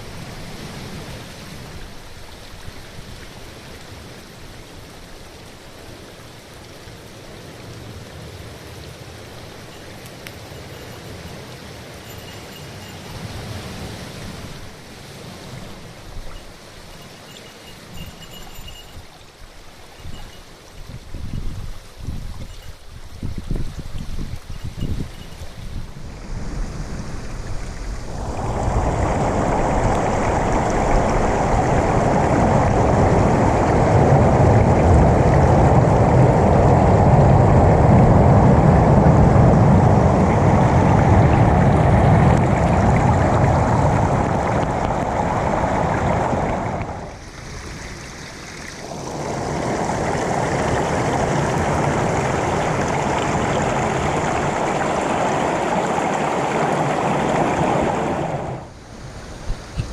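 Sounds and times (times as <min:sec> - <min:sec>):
water rushing on rocky shore: 0:00.0 - 0:59.9.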